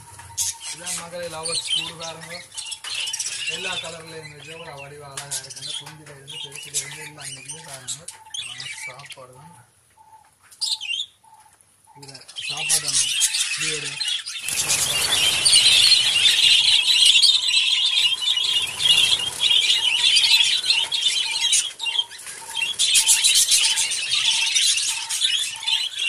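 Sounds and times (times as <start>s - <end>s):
budgerigars chattering and squawking: 0.0s - 26.0s.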